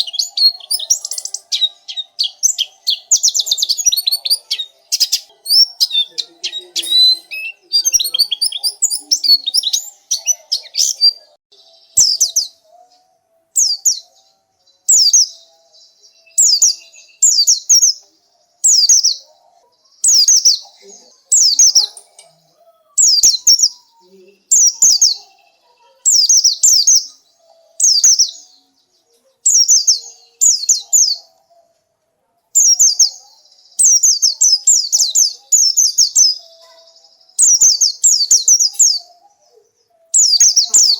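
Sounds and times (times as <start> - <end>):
bird twittering and chirping: 0.0 - 31.8, 32.5 - 40.9.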